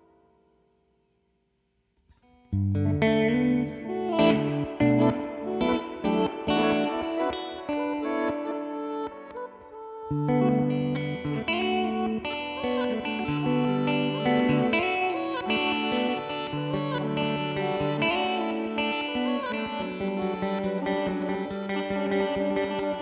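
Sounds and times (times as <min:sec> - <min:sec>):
reversed electric guitar notes: 0:02.3 - 0:23.0.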